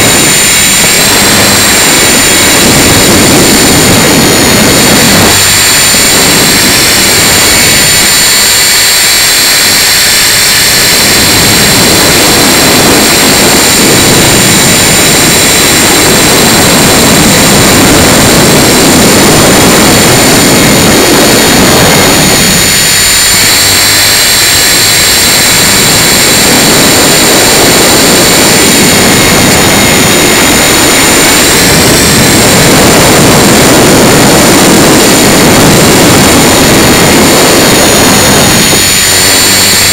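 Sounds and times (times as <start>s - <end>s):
helicopter motor whine: 0.0s - 39.9s
rotor noise rushing: 0.0s - 39.9s.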